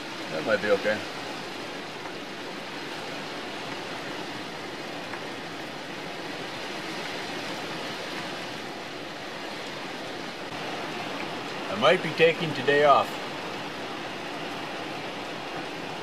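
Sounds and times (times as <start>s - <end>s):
rain on a tin roof: 0.0s - 16.0s.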